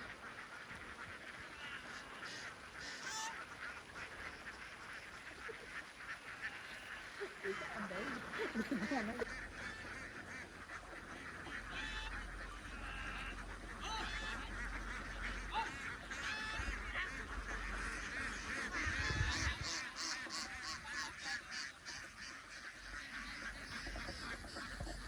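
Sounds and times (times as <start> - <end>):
flock of ducks quacking: 0.0 - 25.0.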